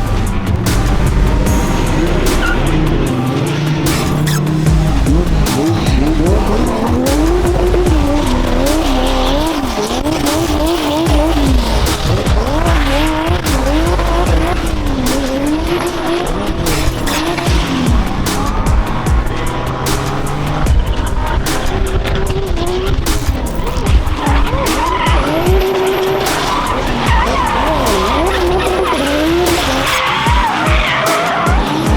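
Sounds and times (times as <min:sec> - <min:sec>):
car engine revving: 0:00.0 - 0:31.9
tyres squealing: 0:00.0 - 0:31.9.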